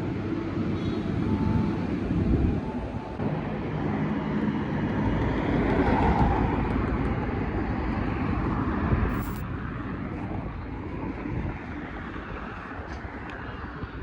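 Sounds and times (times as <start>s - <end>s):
vehicle rumble and tyre noise: 0.0s - 14.0s.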